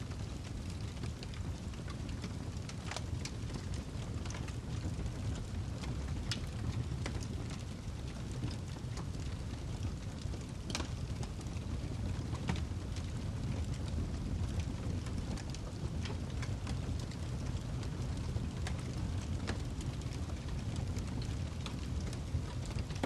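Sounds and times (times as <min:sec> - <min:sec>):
burning log crackling and popping: 0:00.0 - 0:23.0
low rumble of flames: 0:00.0 - 0:23.0.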